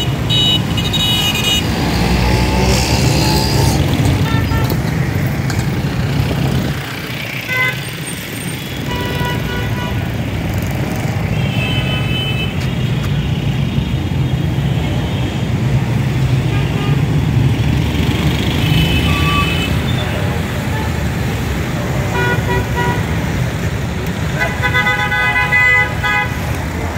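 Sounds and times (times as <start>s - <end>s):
motorcycle and car engines: 0.0s - 11.6s, 12.5s - 24.6s.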